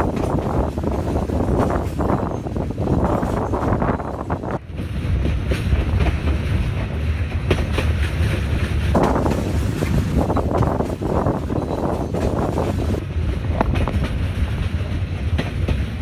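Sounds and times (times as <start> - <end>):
train running on rails: 0.0 - 16.0
wind buffeting microphone: 0.0 - 16.0.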